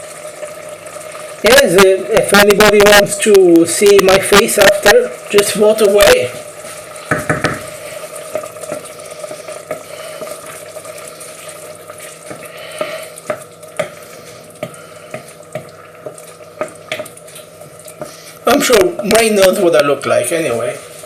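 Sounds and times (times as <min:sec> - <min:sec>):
rice simmering and sizzling in pan: 0:00.0 - 0:21.0.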